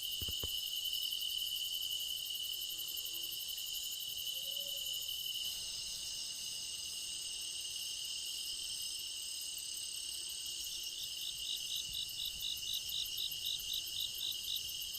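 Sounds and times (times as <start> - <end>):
insect chirping regularly: 0.0 - 14.9
insects trilling in chorus: 0.0 - 14.9.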